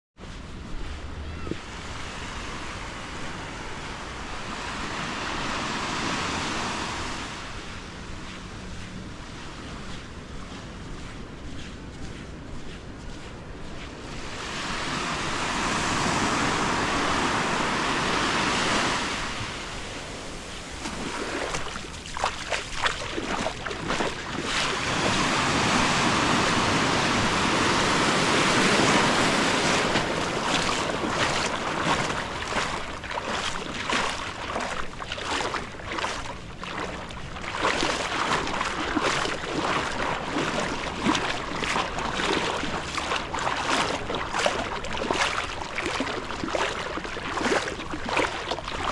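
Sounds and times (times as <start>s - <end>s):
sea surf breaking on a beach: 0.6s - 9.9s, 13.9s - 48.9s.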